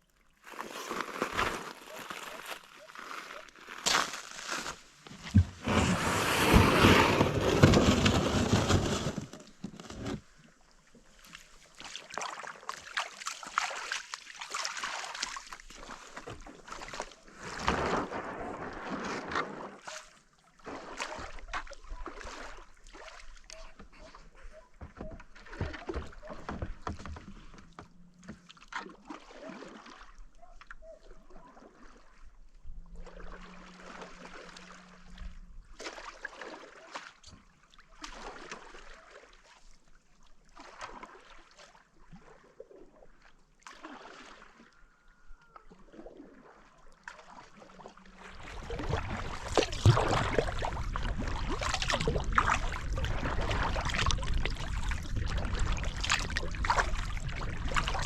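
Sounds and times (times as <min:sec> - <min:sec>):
paddle strokes swishing through water: 0:00.4 - 0:44.8, 0:45.7 - 0:58.0.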